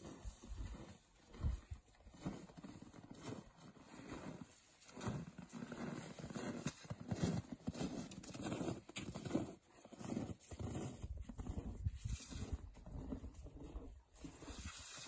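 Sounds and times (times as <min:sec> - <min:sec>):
boots crunching on snow: 0:00.0 - 0:15.0
cable scraping across snow: 0:00.0 - 0:15.0.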